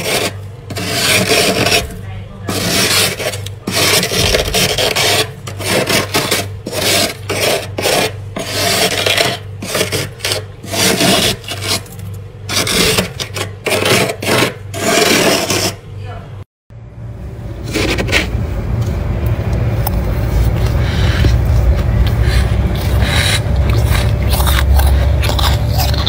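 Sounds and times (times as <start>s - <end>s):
spoon scraping frost: 0.0s - 15.8s, 17.6s - 18.3s, 20.1s - 26.0s.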